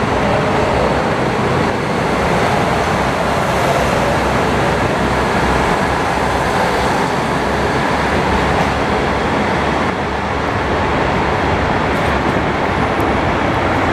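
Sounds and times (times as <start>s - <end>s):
diesel train running: 0.0s - 13.9s.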